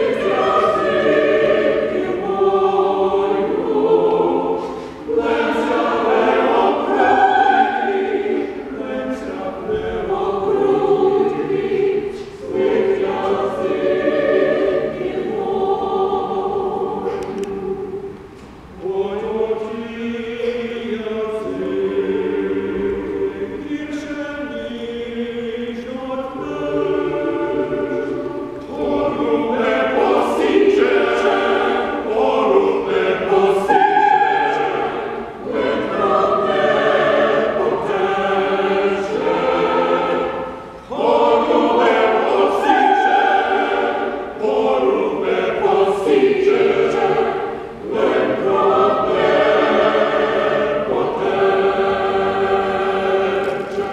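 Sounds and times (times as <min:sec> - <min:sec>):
mixed choir singing a cappella: 0:00.0 - 0:53.9.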